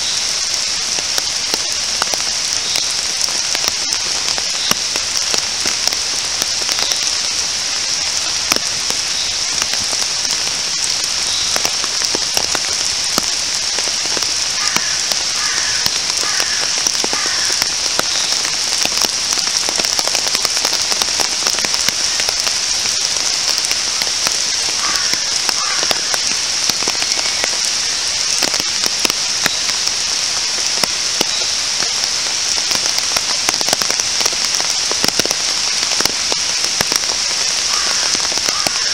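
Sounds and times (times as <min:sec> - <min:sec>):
steady rain on grass and leaves: 0:00.0 - 0:38.9.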